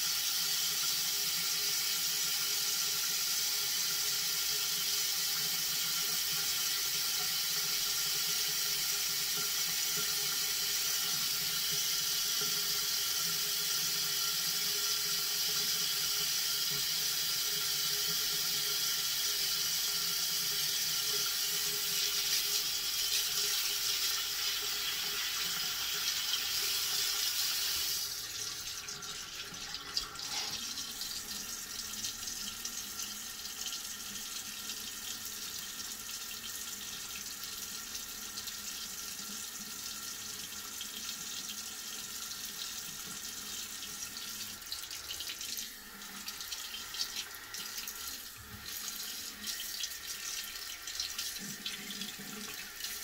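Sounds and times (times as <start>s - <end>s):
tap water running into sink: 0.0s - 53.0s.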